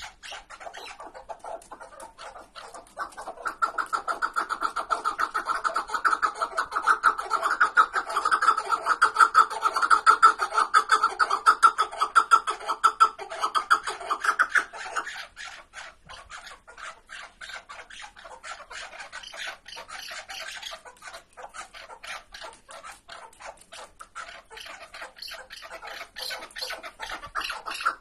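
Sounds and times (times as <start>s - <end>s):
partridges clucking calls: 0.0s - 28.0s.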